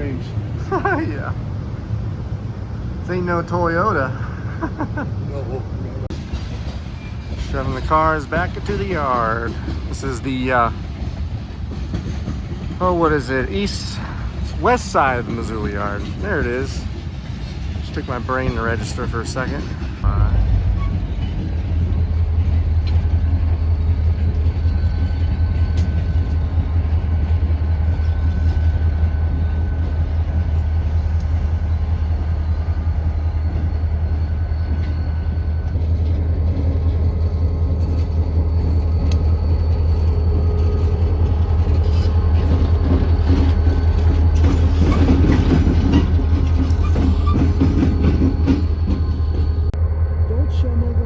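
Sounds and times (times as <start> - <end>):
diesel locomotive engine hum: 0.0 - 51.0.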